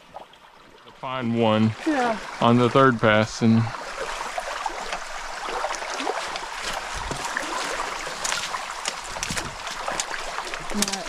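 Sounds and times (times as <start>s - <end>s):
small water splashes: 0.0s - 11.0s
stream water running: 0.0s - 11.0s.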